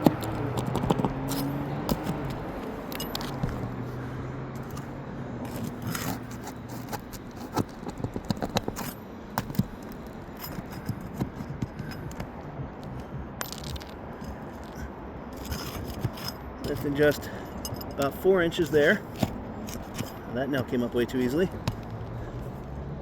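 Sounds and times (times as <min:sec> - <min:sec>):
shingle cracking and scraping: 0:00.0 - 0:03.8, 0:04.6 - 0:22.3.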